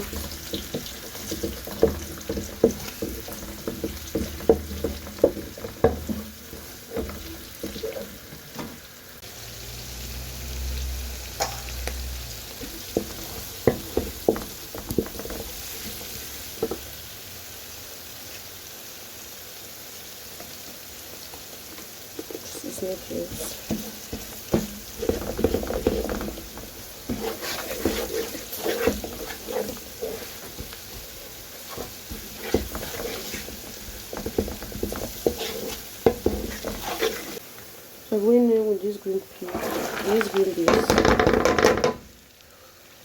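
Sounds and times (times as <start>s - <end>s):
onions sizzling in oil: 0.0s - 43.0s.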